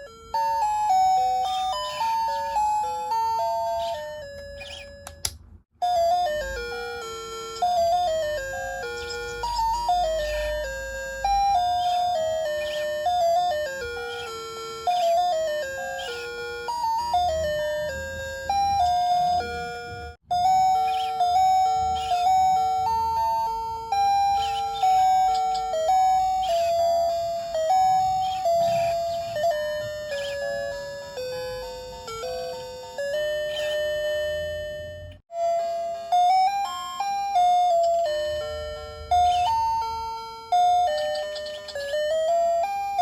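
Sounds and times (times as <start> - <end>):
alarm clock chime melody: 0.0 - 43.0.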